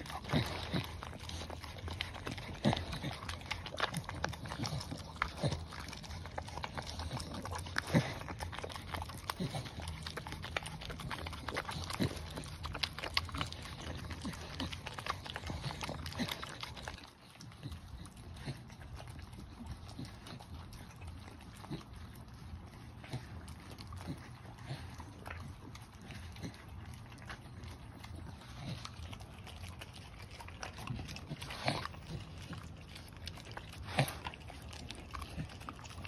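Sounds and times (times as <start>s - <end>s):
dogs licking food: 0.0s - 36.0s.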